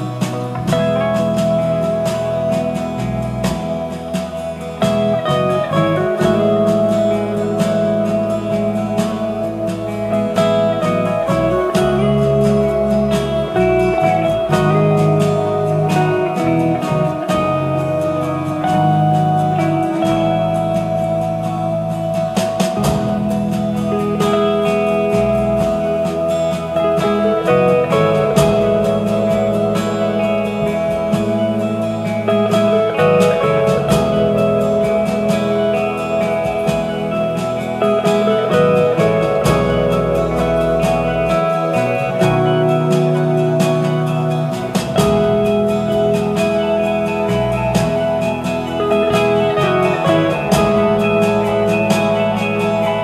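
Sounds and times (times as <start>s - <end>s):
instrumental string music: 0.0s - 53.0s.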